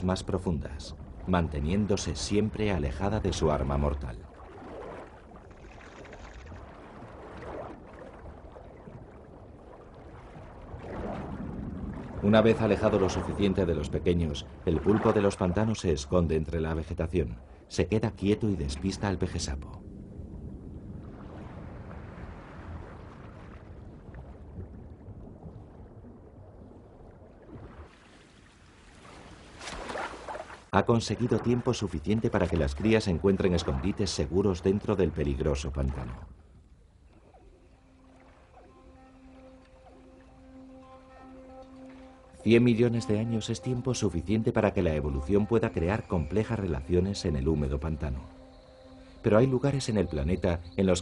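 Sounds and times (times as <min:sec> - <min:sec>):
water sloshing and lapping: 0:00.0 - 0:50.7.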